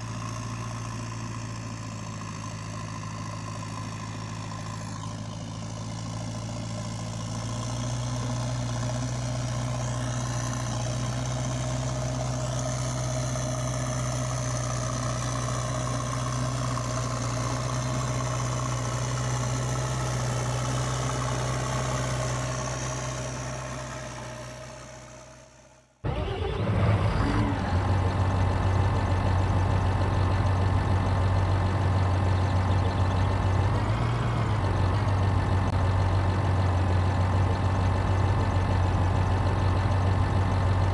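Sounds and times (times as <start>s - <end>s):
engine idling: 0.0s - 40.9s
louder engine idling: 0.0s - 40.9s.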